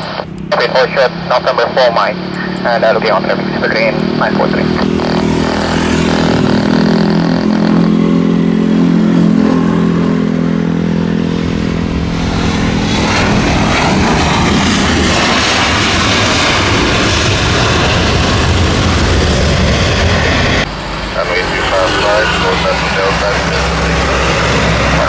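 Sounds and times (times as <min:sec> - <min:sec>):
jet engine roar: 0:00.0 - 0:25.0
low jet engine hum: 0:00.0 - 0:25.0.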